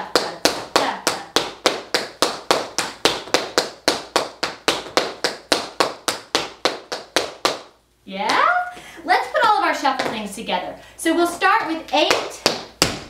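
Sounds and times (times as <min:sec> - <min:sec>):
tap shoes on wooden floor: 0:00.0 - 0:07.7, 0:09.3 - 0:10.4, 0:11.3 - 0:13.0.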